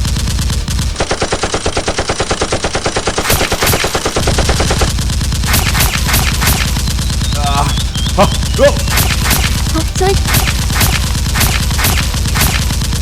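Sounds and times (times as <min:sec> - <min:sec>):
rapid automatic gunfire: 0:00.0 - 0:13.0.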